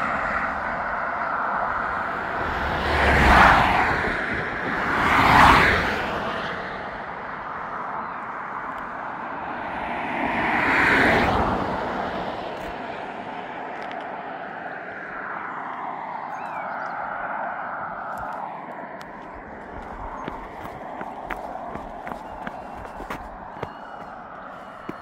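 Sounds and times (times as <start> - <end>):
background traffic noise: 0.0 - 25.0
vehicles passing: 0.0 - 25.0.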